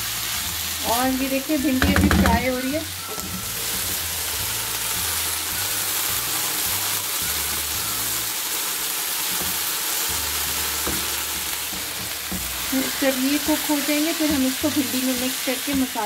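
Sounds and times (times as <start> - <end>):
okra sizzling in oil: 0.0 - 16.0.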